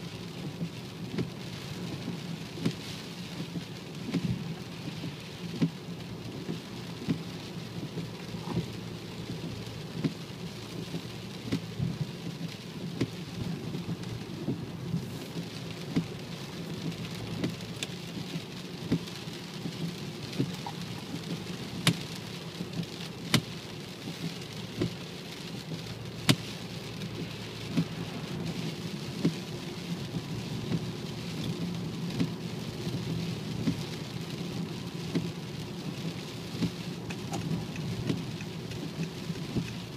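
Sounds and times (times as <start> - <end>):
car cabin rumble: 0.1 - 39.9.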